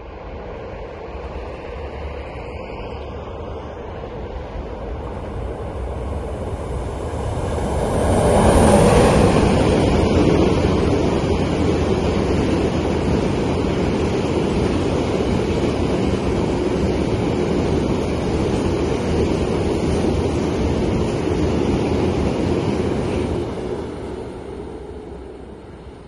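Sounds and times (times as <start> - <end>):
electric locomotive passing: 0.0 - 26.0.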